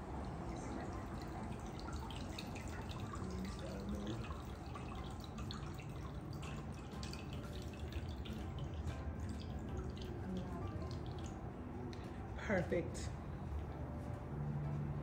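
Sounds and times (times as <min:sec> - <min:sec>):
liquid pouring and dripping: 0:00.0 - 0:12.2.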